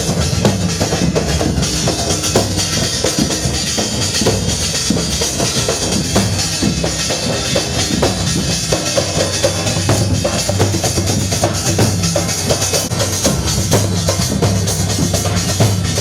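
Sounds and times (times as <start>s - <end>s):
drums beating rapid rhythm: 0.0s - 16.0s.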